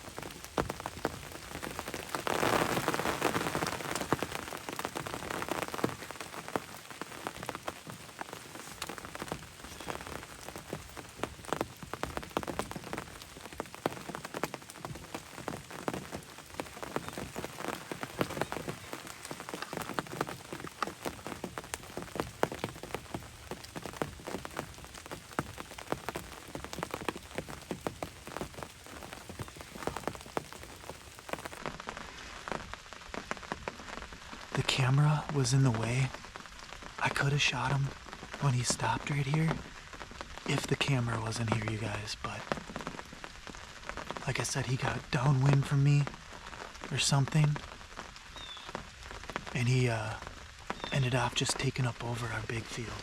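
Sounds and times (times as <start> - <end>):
rain drops ticking on a blind: 0.0 - 53.0.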